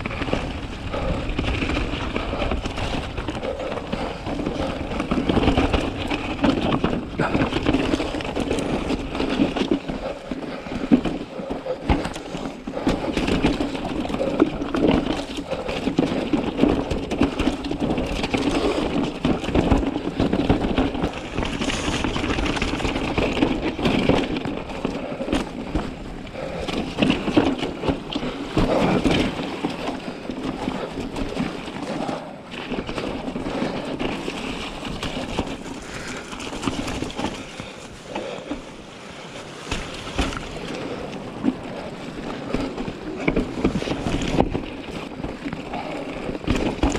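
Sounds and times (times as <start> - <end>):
bike knocks and rattles: 0.0 - 46.9
tyres crunching over stones: 0.0 - 46.9.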